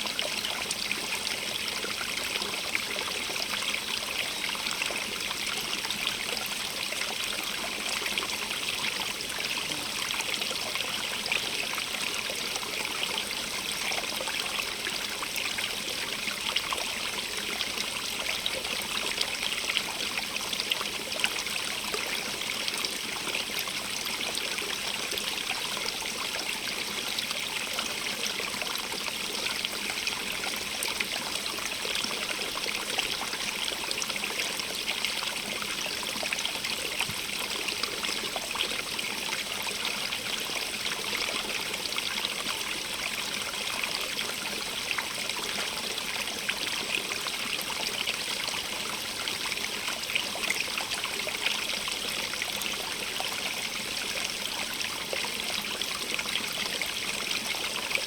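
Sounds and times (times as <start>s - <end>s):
stream babbling and trickling: 0.0s - 58.0s.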